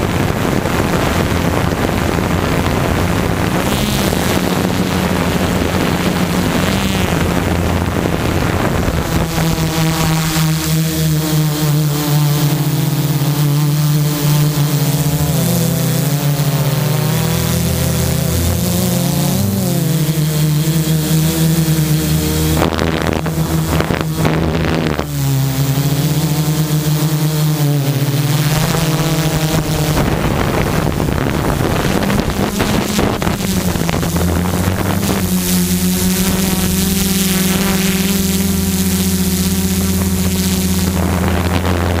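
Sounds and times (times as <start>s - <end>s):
drone propellers humming: 0.0s - 42.0s
wind noise on microphone: 0.0s - 42.0s.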